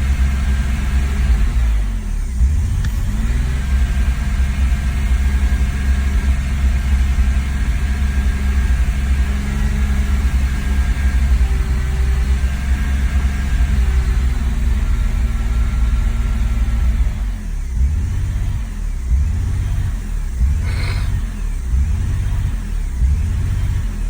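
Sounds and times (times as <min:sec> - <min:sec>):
car engine running at full throttle: 0:00.0 - 0:24.0.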